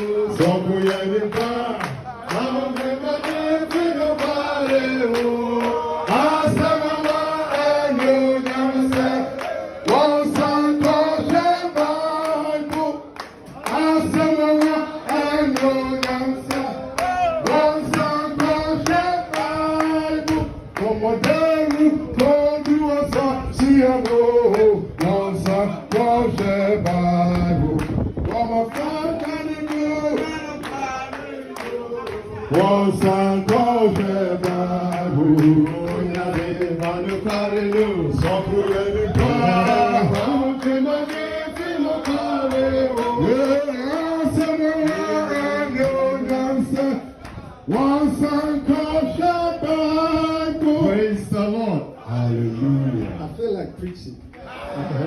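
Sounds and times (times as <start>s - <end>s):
hand clapping on the beat: 0.0s - 49.8s
group singing a hymn: 0.0s - 52.7s, 54.4s - 55.0s.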